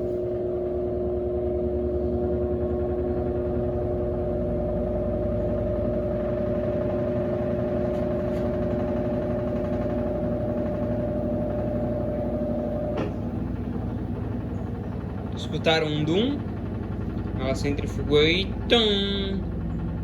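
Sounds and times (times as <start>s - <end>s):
washing machine drum spinning: 0.0s - 20.0s.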